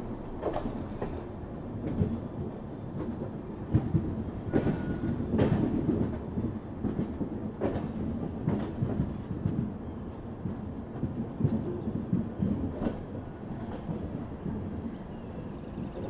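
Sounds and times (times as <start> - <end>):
train clacks and knocks: 0.0 - 16.0
wheels rumbling on rail: 0.0 - 16.0.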